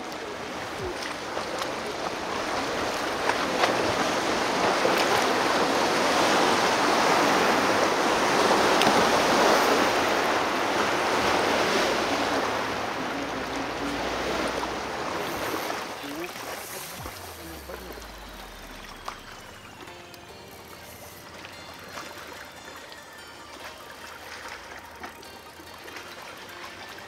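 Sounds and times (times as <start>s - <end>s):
water rushing around kayak: 0.0s - 27.0s
wind: 0.0s - 27.0s.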